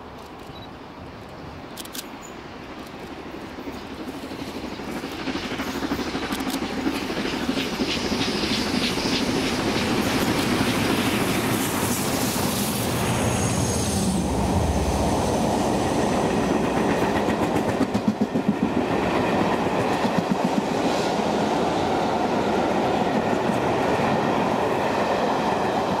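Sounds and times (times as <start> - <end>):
clickety-clack over rail joints: 0.0 - 13.0, 15.6 - 26.0
train wheels rumbling on rails: 0.0 - 26.0.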